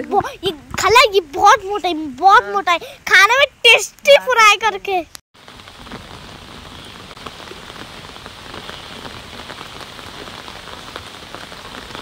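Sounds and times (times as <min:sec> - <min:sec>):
rain on pond water: 0:00.0 - 0:12.0.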